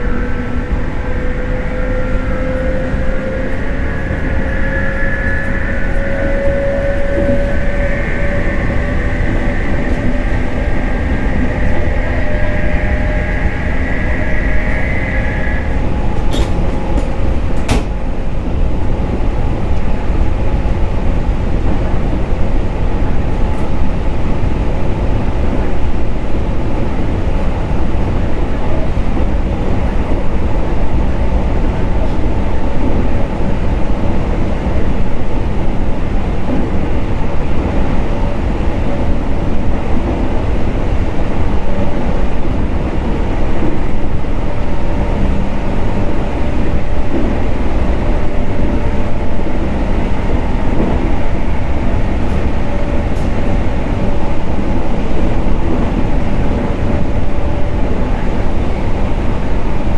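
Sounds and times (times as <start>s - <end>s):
high whine: 0.0s - 59.9s
train wheels rumbling on rails: 0.0s - 59.9s.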